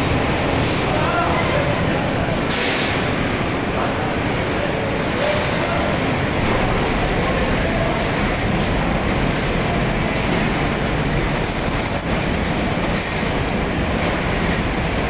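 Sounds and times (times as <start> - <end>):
conveyor rollers clattering: 0.0 - 15.0.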